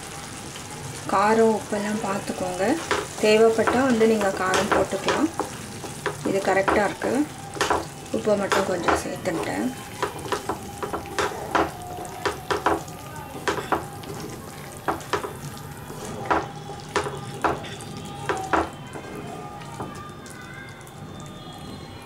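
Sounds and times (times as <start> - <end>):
low sizzle of cooking: 0.0 - 22.0
wooden spatula scraping a pan: 2.0 - 19.9.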